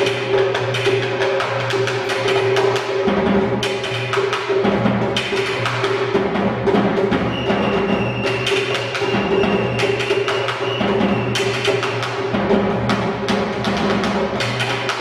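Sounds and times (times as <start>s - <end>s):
fast drumming on bass drum and tom: 0.0s - 15.0s.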